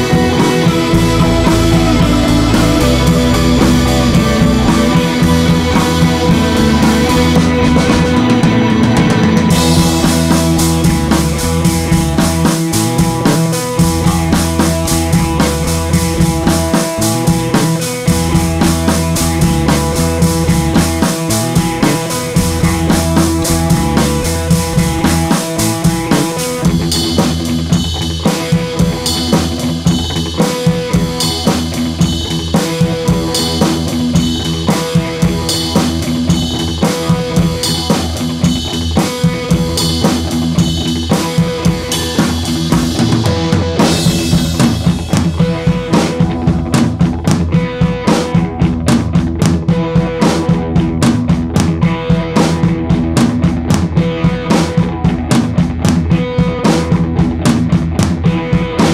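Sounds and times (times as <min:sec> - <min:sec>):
music with drum kit beat: 0:00.0 - 0:58.9.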